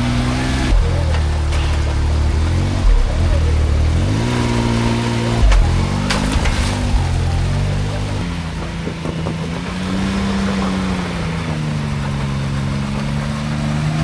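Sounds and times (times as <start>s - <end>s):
utility vehicle engine revving: 0.0s - 14.0s.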